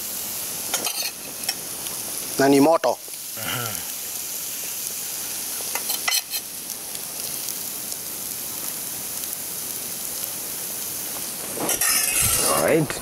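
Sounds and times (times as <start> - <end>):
food sizzling in pan: 0.0 - 13.0.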